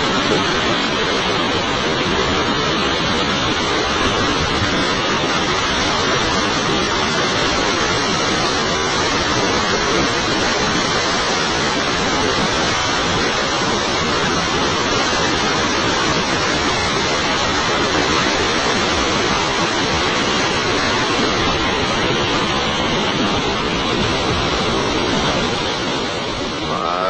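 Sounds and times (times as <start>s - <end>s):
churning rapids: 0.0s - 27.0s
waterfall roaring: 0.0s - 27.0s.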